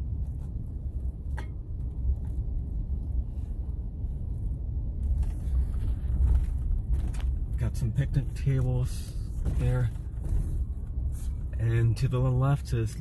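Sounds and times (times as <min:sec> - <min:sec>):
car engine and tyres rumble: 0:00.0 - 0:13.0.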